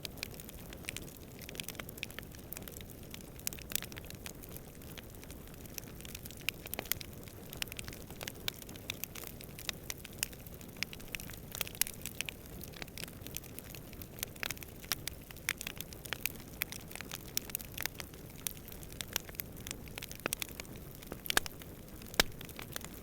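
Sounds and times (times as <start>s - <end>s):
campfire crackling and popping: 0.0s - 23.0s
low rumble of flames: 0.2s - 23.0s.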